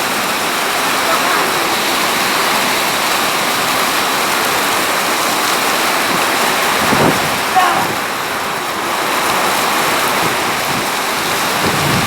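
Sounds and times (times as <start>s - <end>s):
heavy rain pouring: 0.0s - 12.0s
strong wind: 0.1s - 12.0s.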